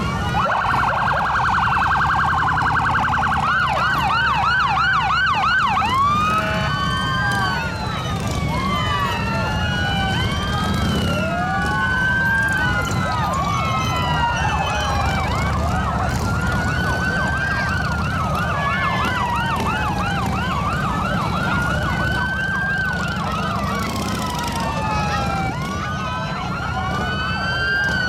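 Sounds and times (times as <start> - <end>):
fast yelping siren: 0.0 - 28.0
wailing sirens: 0.0 - 28.0.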